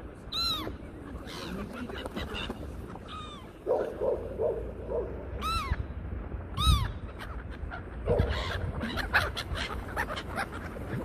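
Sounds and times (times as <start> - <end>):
gulls calling: 0.0 - 11.0
wind rumble on microphone: 1.9 - 11.0.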